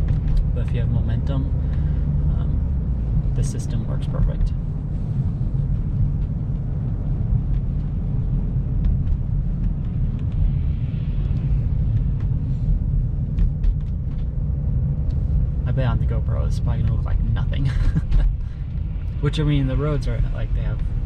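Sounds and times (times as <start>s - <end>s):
car cabin road rumble: 0.0s - 21.0s.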